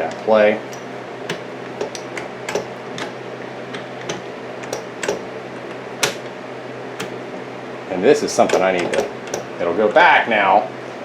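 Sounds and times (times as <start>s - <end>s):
lathe running with low hum: 0.0s - 11.0s.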